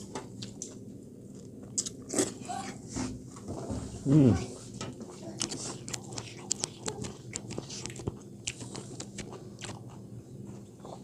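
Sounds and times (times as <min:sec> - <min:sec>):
faint low hum: 0:00.0 - 0:11.0
people chewing food: 0:00.0 - 0:11.0.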